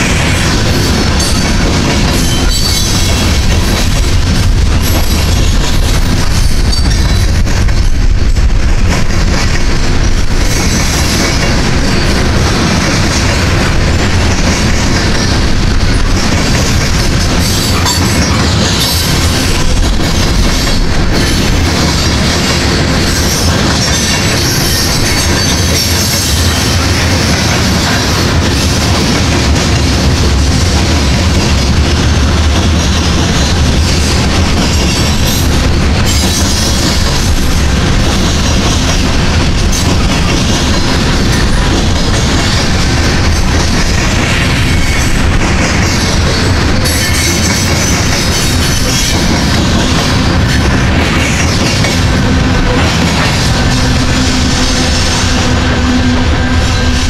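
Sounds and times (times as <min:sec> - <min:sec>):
freight train rumbling past: 0:00.0 - 0:57.0
wheels clattering on rails: 0:00.0 - 0:57.0.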